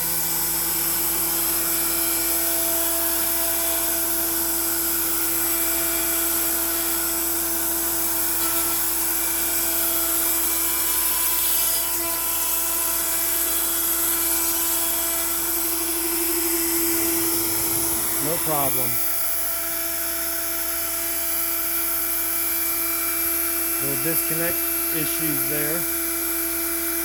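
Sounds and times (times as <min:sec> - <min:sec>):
router whining cutting wood: 0:00.0 - 0:27.0.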